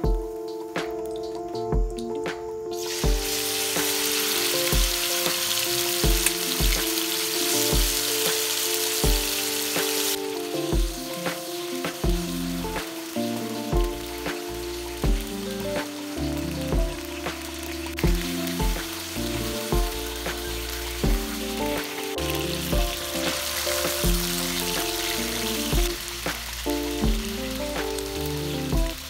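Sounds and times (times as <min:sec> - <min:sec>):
background music with beat: 0:00.0 - 0:29.0
chicken frying in oil: 0:02.8 - 0:29.0.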